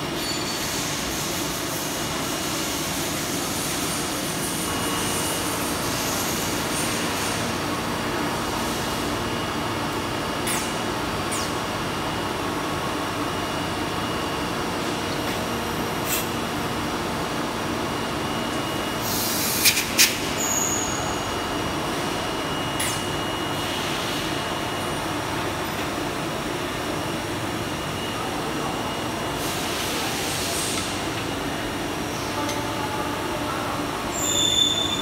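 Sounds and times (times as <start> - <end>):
factory floor running noise: 0.0 - 35.0.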